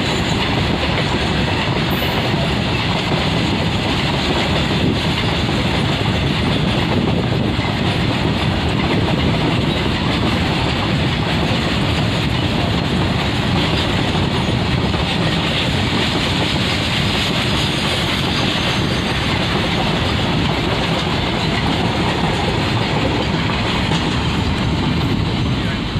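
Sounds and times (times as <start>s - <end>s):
train wheels rolling on rails: 0.0s - 25.9s.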